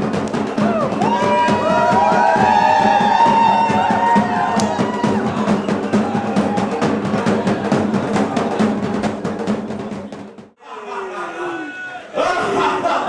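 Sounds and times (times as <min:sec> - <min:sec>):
drum-driven music: 0:00.0 - 0:10.6.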